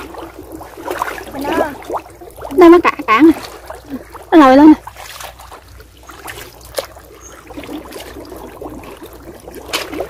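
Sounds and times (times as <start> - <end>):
shallow water sloshing: 0.0 - 10.0
small drips: 0.0 - 10.0.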